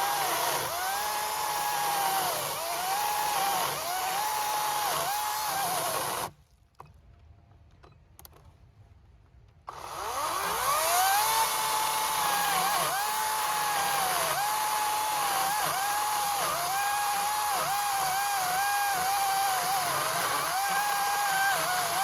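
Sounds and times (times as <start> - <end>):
electric chainsaw cutting wood: 0.0 - 6.3, 9.7 - 22.0.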